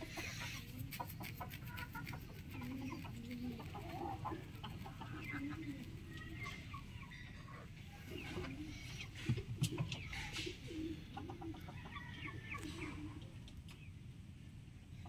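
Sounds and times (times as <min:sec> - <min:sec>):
rooster clucking: 0:00.0 - 0:13.4.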